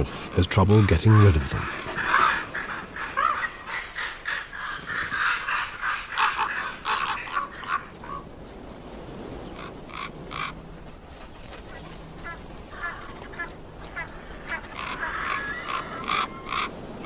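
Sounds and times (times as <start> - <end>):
ravens cawing: 0.0 - 8.4, 9.5 - 10.9, 11.7 - 17.0.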